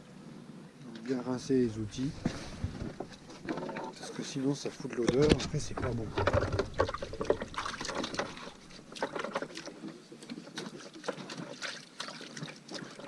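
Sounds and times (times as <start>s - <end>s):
water lapping against boat hull: 0.8s - 13.0s.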